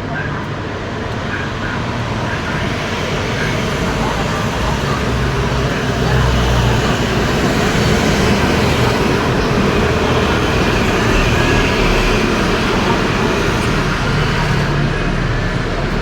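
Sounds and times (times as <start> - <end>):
loud road traffic: 0.0 - 16.0.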